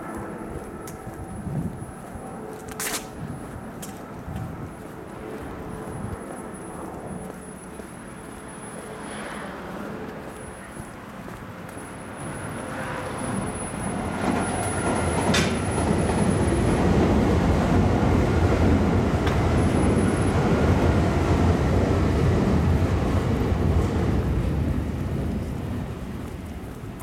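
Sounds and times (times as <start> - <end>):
electric train rumble overhead: 0.0 - 27.0.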